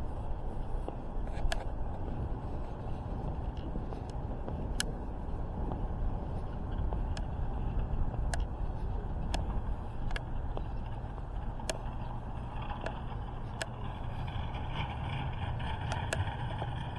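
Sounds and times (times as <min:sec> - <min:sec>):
vehicle rumble: 0:00.0 - 0:16.9.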